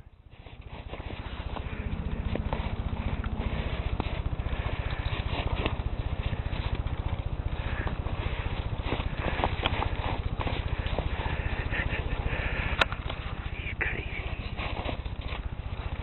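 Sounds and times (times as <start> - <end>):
low rhythmic engine thrum: 0.0 - 16.0.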